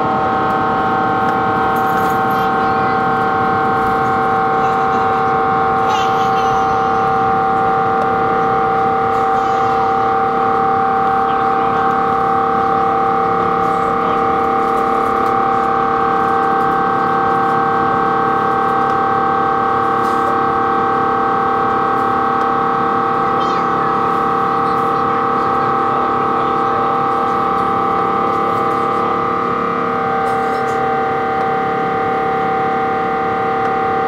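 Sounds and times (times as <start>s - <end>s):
jet engine drone in cabin: 0.0s - 34.0s.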